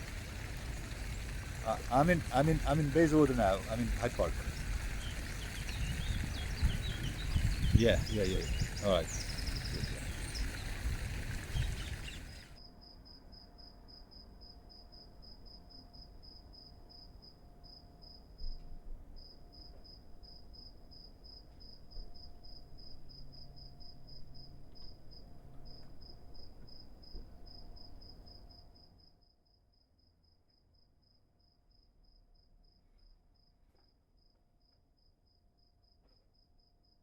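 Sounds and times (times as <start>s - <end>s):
cricket chirping: 0.0s - 37.0s.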